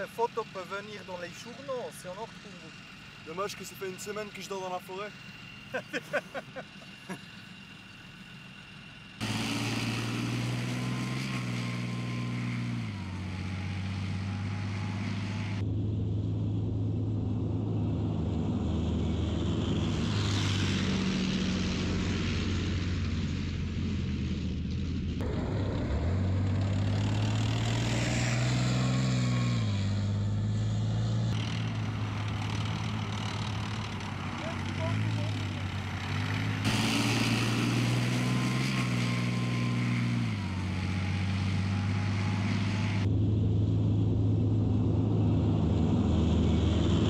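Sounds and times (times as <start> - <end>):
whistling engine whine: 0.0 - 24.1, 25.2 - 47.0
tank diesel engine revving: 0.0 - 47.0.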